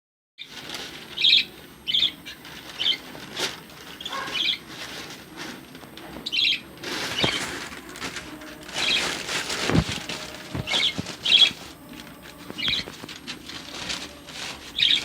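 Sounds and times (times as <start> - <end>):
lovebirds chirping: 0.4 - 15.0.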